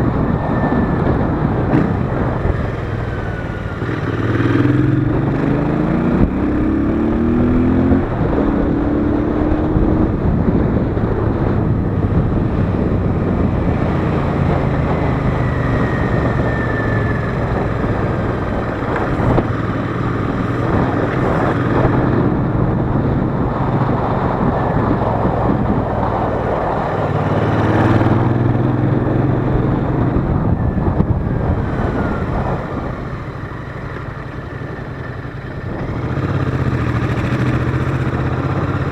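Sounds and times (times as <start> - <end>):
motorcycle engine accelerating: 0.0 - 38.9
wind and road rush: 0.0 - 38.9.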